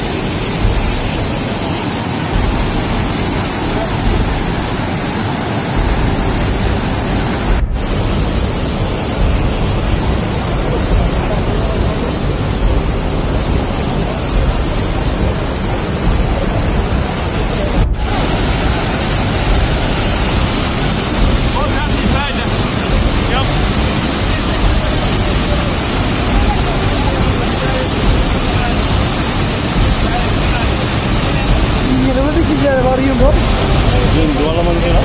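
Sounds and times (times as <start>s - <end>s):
rushing floodwater: 0.0s - 35.0s.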